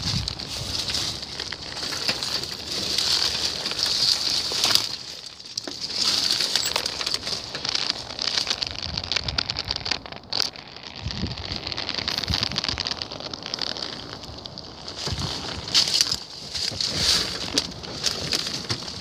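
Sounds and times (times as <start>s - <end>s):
dry leaves and twigs crunching: 0.0s - 19.0s.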